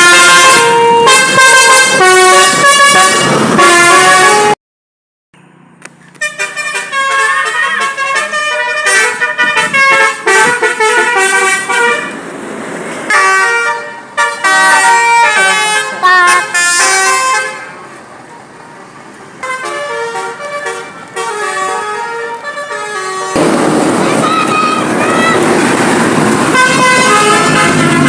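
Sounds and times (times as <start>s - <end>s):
multi-tone musical bus horns: 0.0s - 4.6s, 6.1s - 18.8s, 19.4s - 28.0s.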